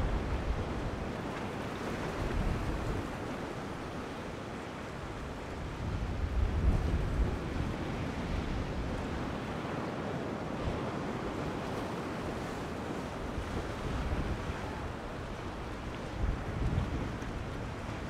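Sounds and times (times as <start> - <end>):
wind buffeting microphone: 0.0 - 3.9, 5.1 - 9.9, 10.5 - 18.0.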